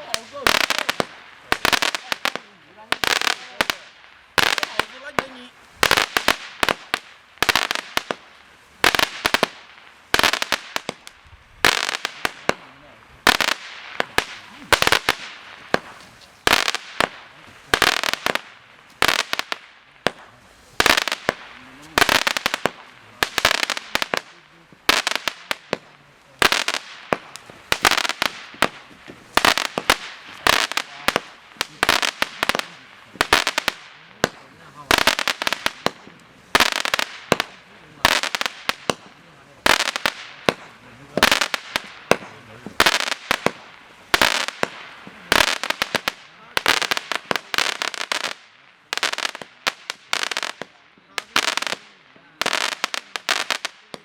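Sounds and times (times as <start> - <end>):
firework crackling pops: 0.0 - 54.0.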